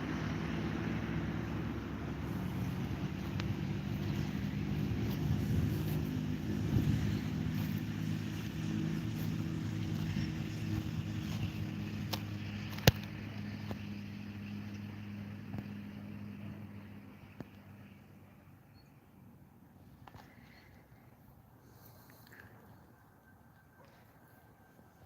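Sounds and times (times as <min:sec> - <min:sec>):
motor engine droning: 0:00.0 - 0:25.0.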